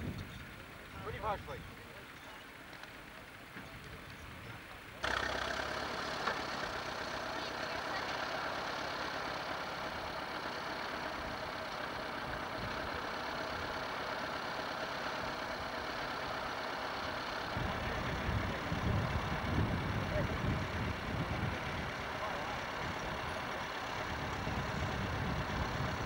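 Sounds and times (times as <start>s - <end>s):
low uneven rumble: 0.0s - 26.0s
tractor engine idling: 0.0s - 26.0s.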